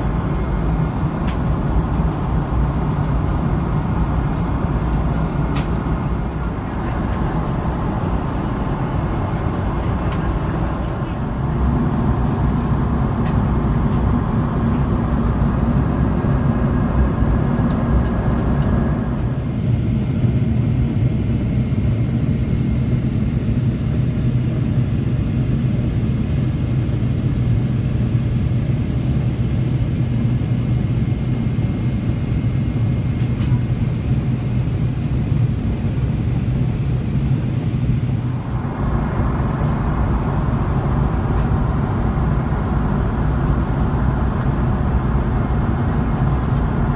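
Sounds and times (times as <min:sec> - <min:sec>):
airplane cabin rumble: 0:00.0 - 0:46.9.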